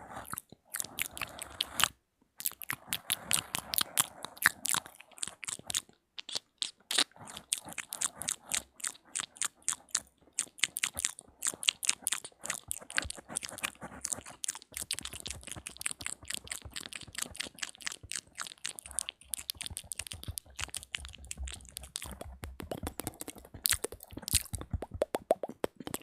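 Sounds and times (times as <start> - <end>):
lip smacks: 0.2 - 26.0
wet tongue clicks: 0.2 - 26.0.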